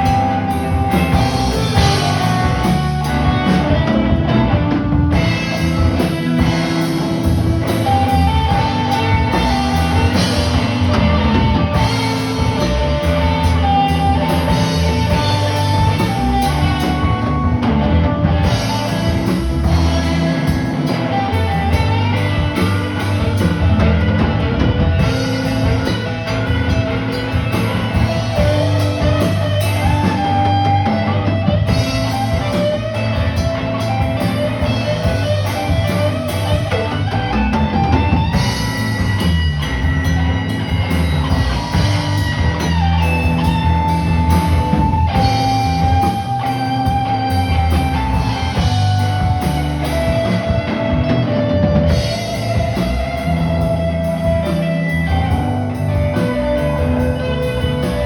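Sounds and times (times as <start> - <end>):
drum kit: 0.0 - 58.0
electric guitar melody: 0.0 - 58.0
live rock band playing: 0.0 - 58.0.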